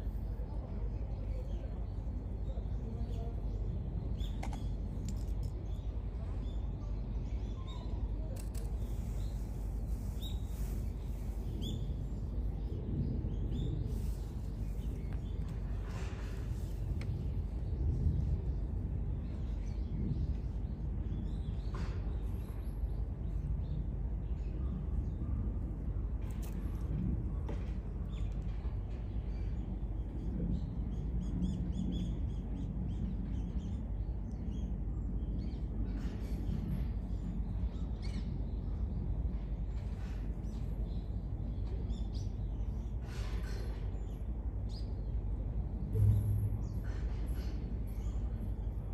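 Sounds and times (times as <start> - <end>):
small birds chirping: 0.0 - 45.9, 46.5 - 48.9
low outdoor rumble: 0.0 - 48.9.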